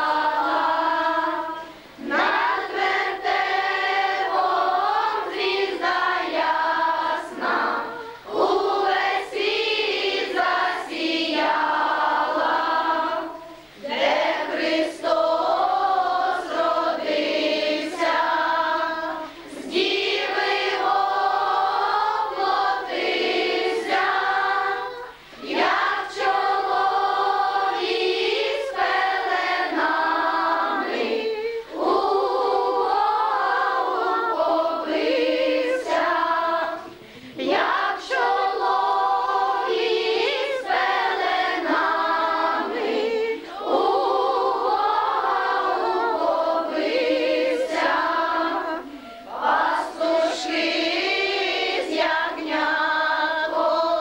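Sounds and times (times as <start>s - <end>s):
children and women singing in unison: 0.0s - 54.0s.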